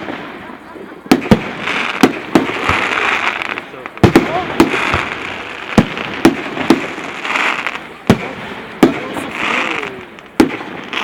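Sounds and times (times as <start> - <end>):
fireworks bangs: 0.0 - 11.0
fireworks hiss: 0.0 - 11.0.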